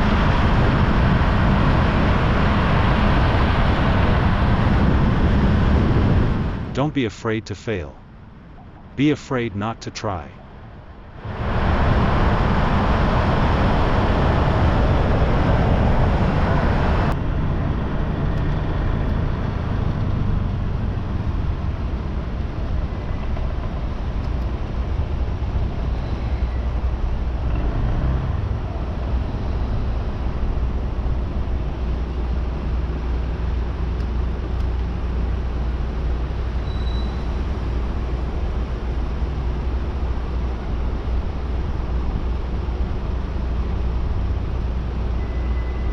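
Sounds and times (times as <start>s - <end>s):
road traffic rumble: 0.0s - 45.9s.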